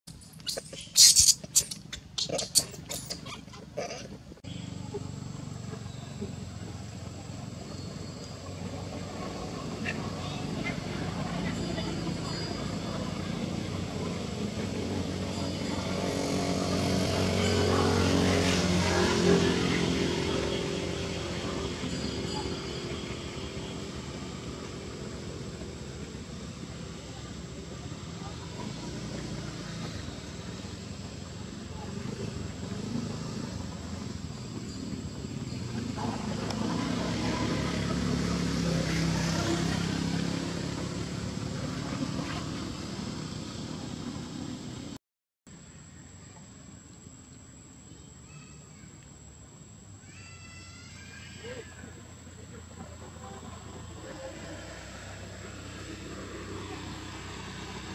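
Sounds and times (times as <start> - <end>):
vehicle engine passing by: 0.5 - 45.0, 50.1 - 57.9.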